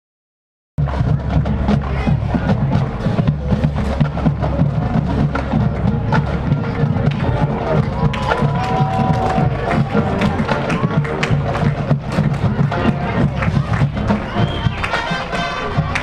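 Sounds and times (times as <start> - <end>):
rapid drum strikes: 0.8 - 14.3
marching band playing: 0.8 - 16.0.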